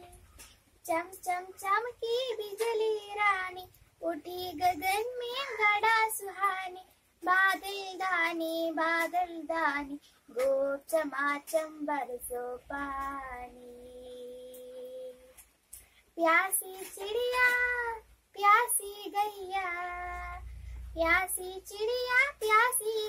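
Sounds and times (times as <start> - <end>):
girl singing: 0.0 - 15.4, 16.1 - 23.0.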